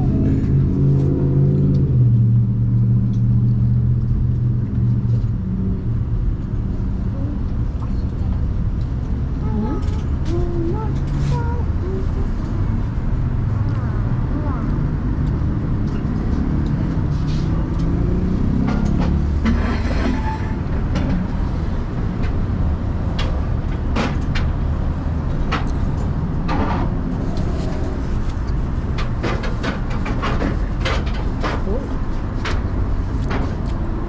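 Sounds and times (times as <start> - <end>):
street traffic rumble: 0.0 - 34.0.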